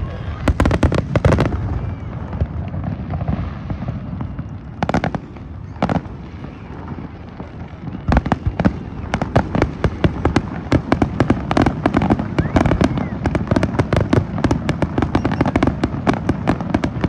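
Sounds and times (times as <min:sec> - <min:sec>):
crowd hubbub: 0:00.0 - 0:17.0
fireworks bangs: 0:00.0 - 0:17.0.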